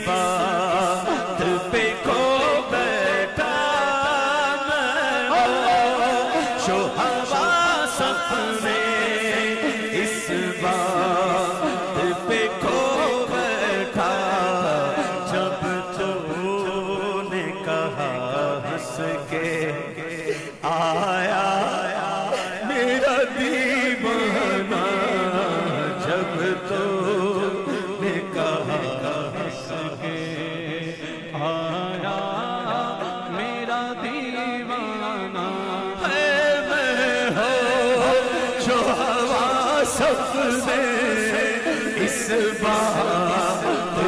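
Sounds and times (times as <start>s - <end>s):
man singing devotional chant: 0.0s - 44.0s.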